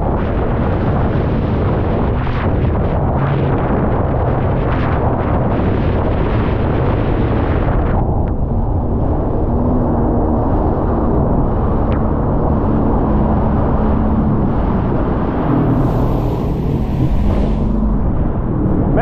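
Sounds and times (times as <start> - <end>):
watercraft engine running: 0.0 - 19.0
wind buffeting microphone: 0.0 - 19.0.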